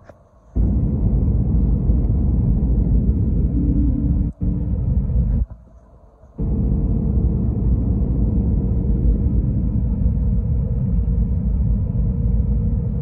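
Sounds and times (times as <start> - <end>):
aircraft engine and airflow noise: 0.0 - 13.0
constant hum: 0.0 - 13.0.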